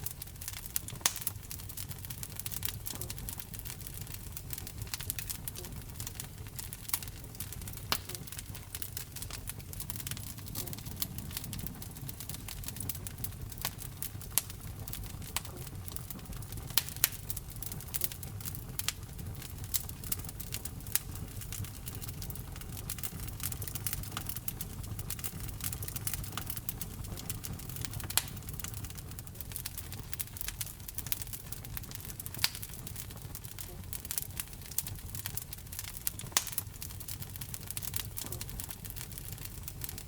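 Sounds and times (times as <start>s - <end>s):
fire crackles and pops: 0.0s - 40.0s
fire flames rumbling: 0.0s - 40.0s.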